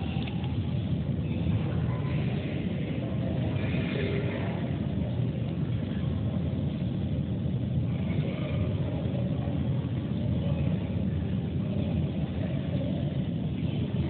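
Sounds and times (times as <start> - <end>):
aircraft low rumble: 0.0 - 14.0.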